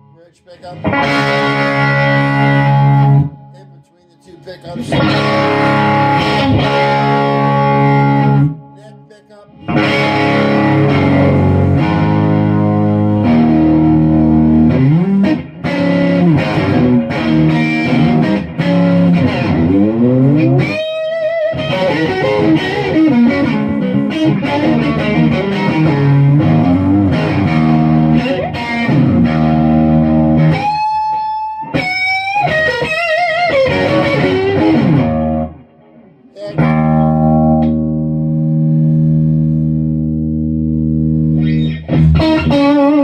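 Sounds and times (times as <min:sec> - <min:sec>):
distorted electric guitar: 0:00.0 - 0:43.0.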